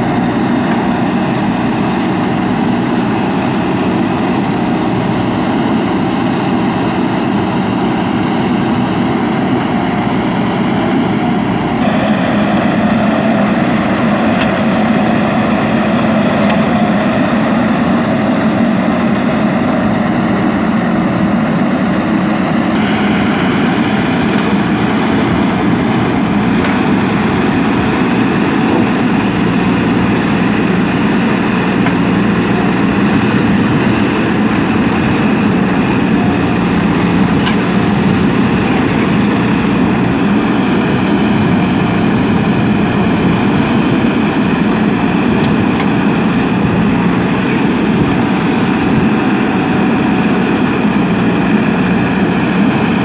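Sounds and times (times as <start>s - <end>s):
diesel digger engine running: 0.0s - 53.0s.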